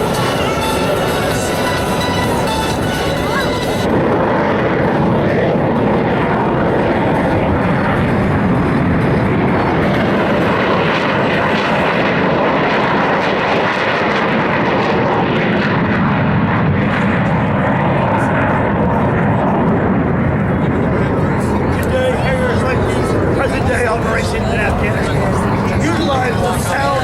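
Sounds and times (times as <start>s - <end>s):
jet aircraft engine roar: 0.0s - 27.0s.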